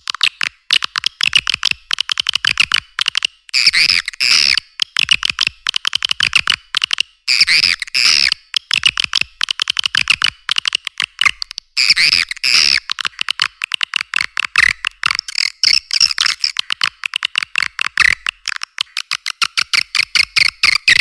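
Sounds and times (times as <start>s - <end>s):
swiftlet clicking chirps: 3.0s - 21.0s.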